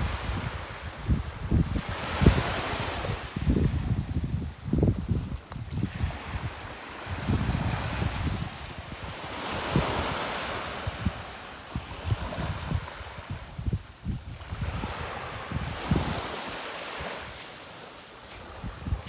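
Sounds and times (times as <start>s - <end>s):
wind buffeting microphone: 0.0s - 17.4s, 18.2s - 19.0s
ocean surf washing onto beach: 0.0s - 19.0s.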